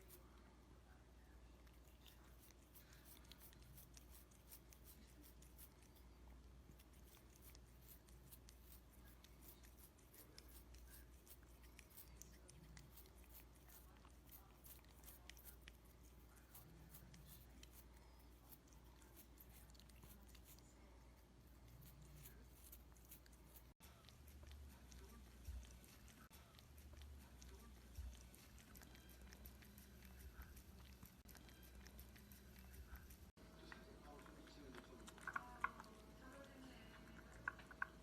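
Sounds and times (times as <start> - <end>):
cat chewing food: 0.0 - 0.5, 1.4 - 38.0.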